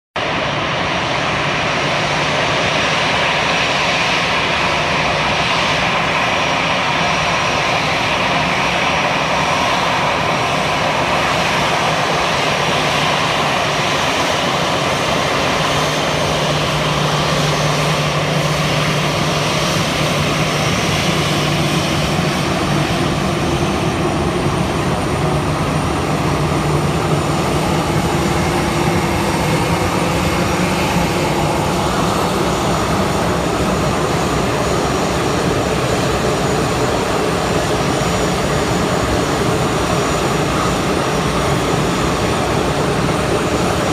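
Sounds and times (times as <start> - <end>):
jet engines running: 0.2 - 43.9.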